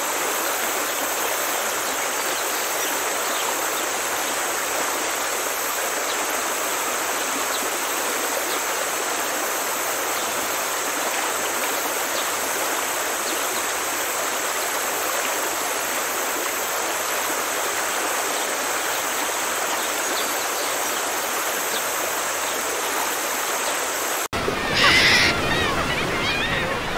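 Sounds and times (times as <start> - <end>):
running water: 0.0 - 26.9.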